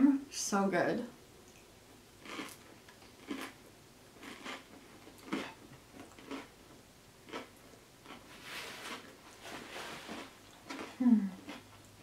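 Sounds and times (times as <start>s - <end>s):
person chewing pasta: 1.5s - 6.6s, 7.2s - 12.0s.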